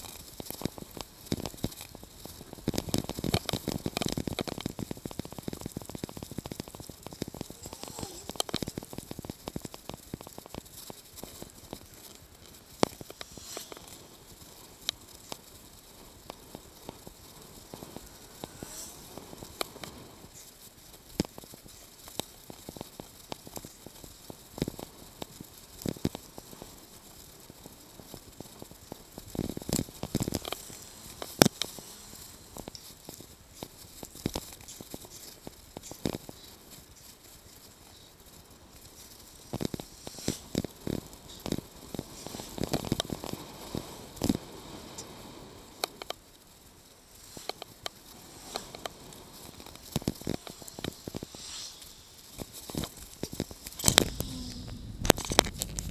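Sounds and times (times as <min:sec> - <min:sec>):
faint steady hiss: 0:00.0 - 0:55.9.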